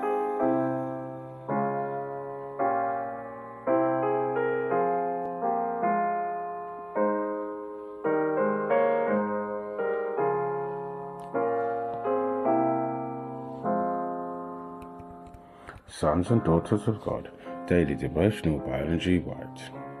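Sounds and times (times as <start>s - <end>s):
gentle solo piano chords: 0.0s - 20.0s.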